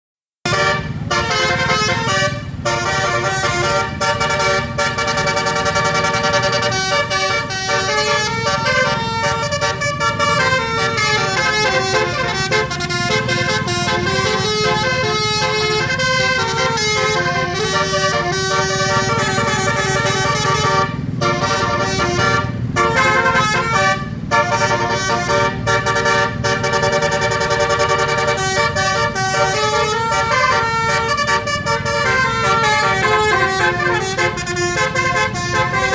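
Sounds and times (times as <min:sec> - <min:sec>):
bus horn playing a tune: 0:00.4 - 0:35.9.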